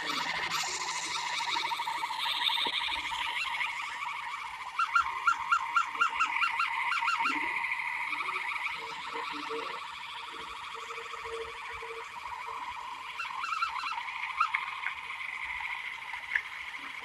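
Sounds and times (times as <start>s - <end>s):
warbling electronic siren tone: 0.0s - 17.0s.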